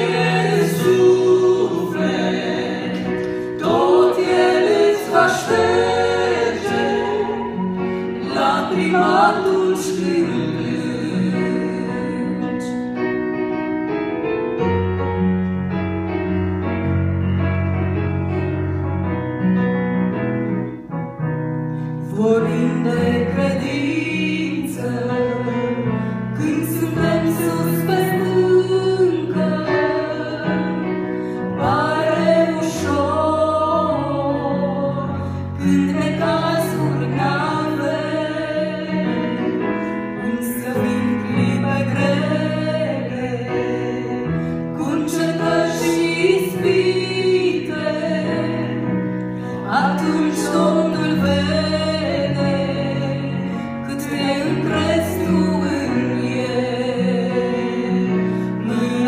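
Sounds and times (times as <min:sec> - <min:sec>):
two women singing gospel: 0:00.0 - 0:13.0, 0:22.0 - 0:59.0.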